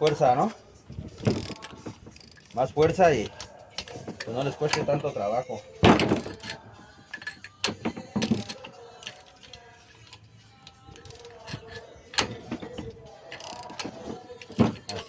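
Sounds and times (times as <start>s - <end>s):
metal clinks: 0.0s - 15.0s
ratchet wrench clicking: 1.2s - 5.1s, 5.9s - 15.0s.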